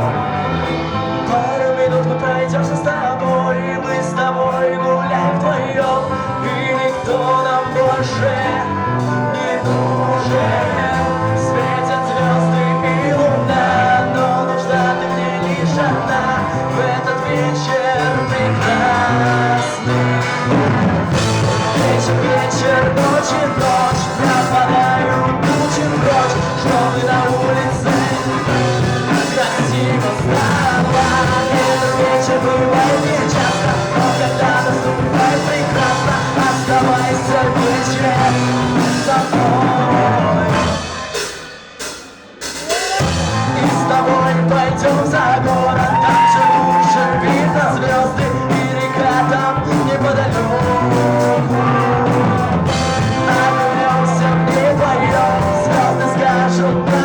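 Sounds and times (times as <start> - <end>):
band playing slow instrumental: 0.0 - 57.0.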